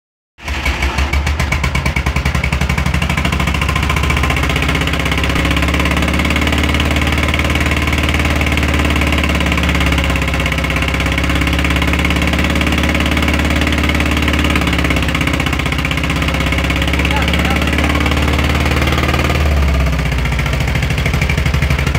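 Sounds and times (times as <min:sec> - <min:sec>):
car engine idling: 0:00.4 - 0:21.9.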